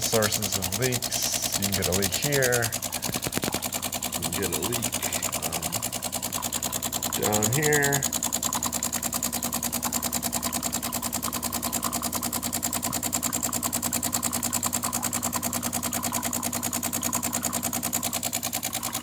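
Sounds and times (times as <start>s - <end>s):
espresso machine pump buzzing: 0.0s - 19.0s.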